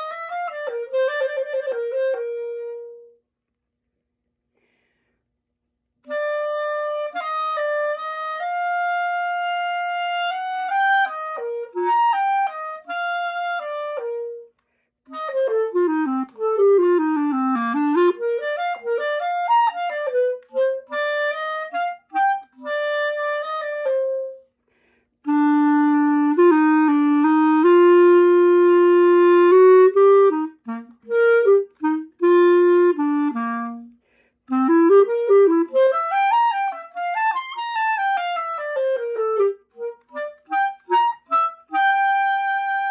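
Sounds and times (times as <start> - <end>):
solo wind instrument melody: 0.0 - 3.3, 6.0 - 24.5, 25.2 - 42.9.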